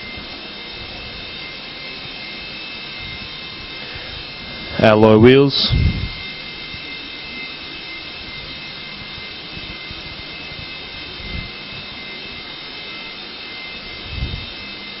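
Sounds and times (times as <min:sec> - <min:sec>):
high steady whine: 0:00.0 - 0:15.0
mechanical rushing drone: 0:00.0 - 0:15.0.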